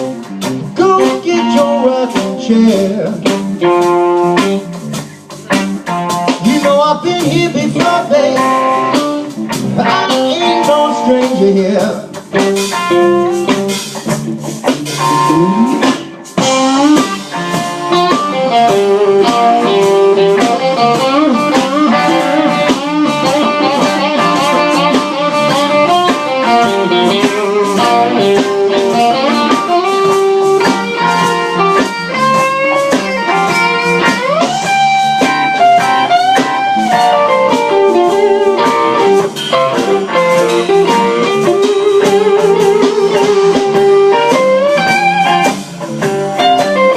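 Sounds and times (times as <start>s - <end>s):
drum kit: 0.0s - 46.9s
electric guitar lead: 0.0s - 46.9s.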